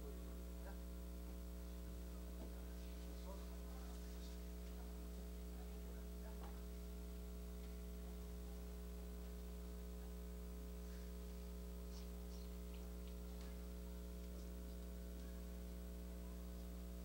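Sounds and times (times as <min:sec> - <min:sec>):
faint electrical mains hum: 0:00.0 - 0:17.0.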